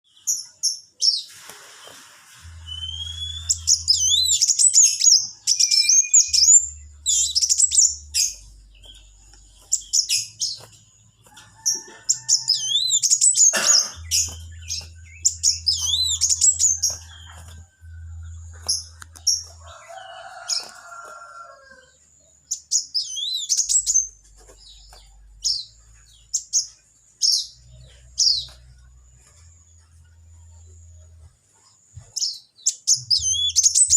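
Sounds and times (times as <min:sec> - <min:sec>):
songbird chirping and whistling: 0:02.5 - 0:29.5, 0:32.0 - 0:33.9.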